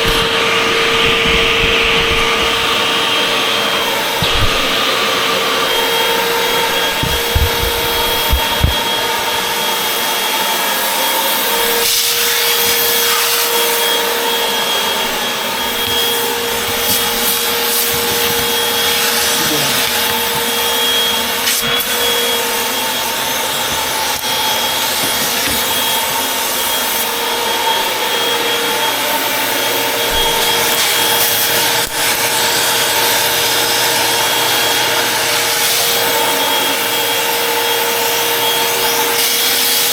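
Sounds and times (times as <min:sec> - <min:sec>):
vacuum cleaner motor whine: 0:00.0 - 0:39.9
vacuum scraping across floor: 0:00.0 - 0:39.9.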